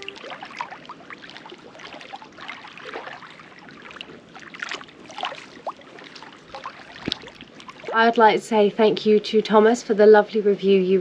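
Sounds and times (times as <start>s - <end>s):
water trickling and dripping: 0.0s - 10.0s.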